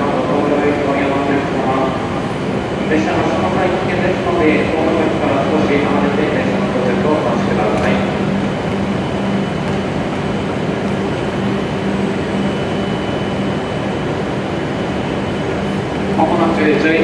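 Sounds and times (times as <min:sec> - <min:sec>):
stationary train hum: 0:00.0 - 0:17.0.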